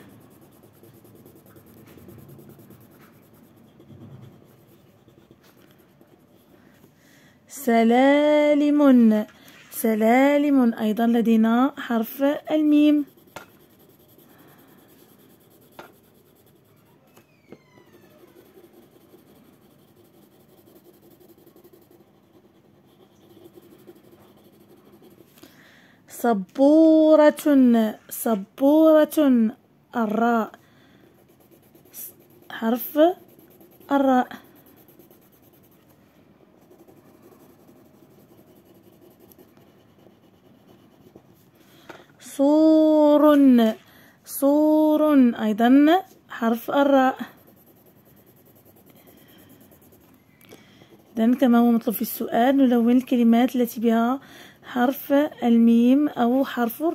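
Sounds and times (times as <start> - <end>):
pencil scratching on paper: 0.0 - 6.9, 7.7 - 25.5, 28.6 - 29.4, 30.0 - 41.6, 44.4 - 50.2, 50.8 - 56.9.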